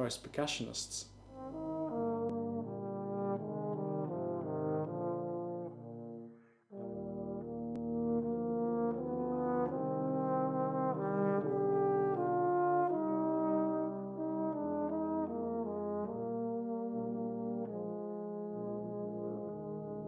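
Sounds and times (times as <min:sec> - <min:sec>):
brass instruments playing chords: 0:00.0 - 0:20.0.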